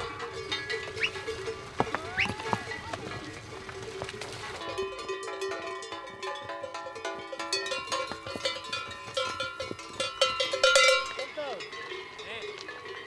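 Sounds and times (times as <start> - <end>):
livestock bells clanking: 0.0 - 13.0.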